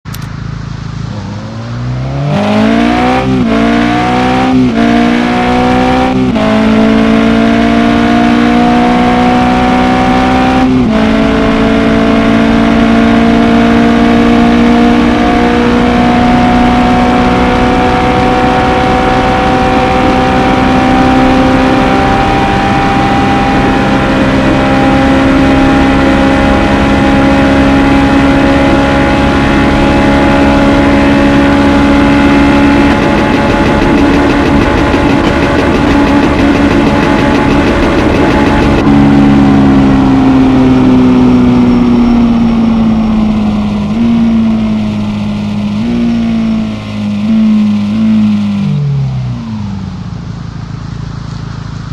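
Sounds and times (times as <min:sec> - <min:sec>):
car engine accelerating hard: 0:00.1 - 0:51.9.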